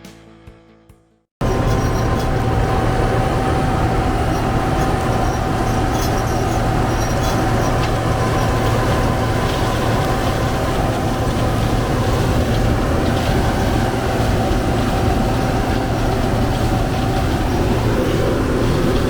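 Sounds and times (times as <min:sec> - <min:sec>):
diesel farm machine droning: 0:01.4 - 0:19.0.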